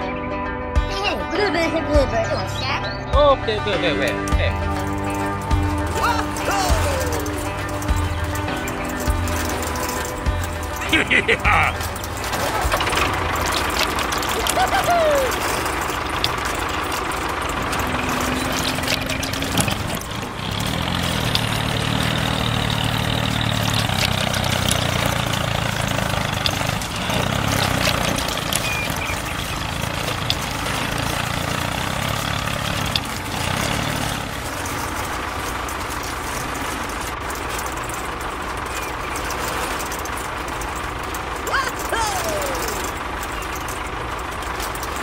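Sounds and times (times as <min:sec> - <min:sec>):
truck engine idling: 0:00.8 - 0:45.0.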